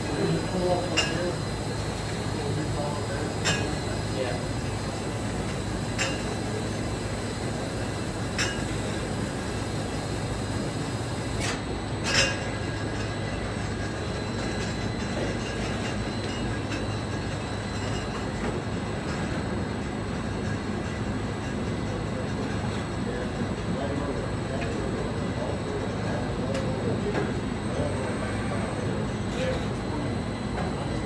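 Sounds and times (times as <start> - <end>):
bottling machine mechanical noise: 0.0 - 31.0.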